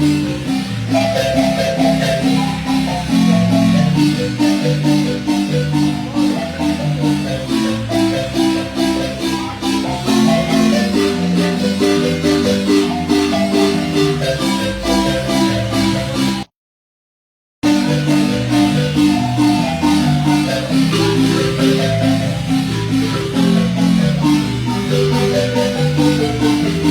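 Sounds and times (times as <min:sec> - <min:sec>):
marimba music: 0:00.0 - 0:16.5, 0:17.6 - 0:26.9.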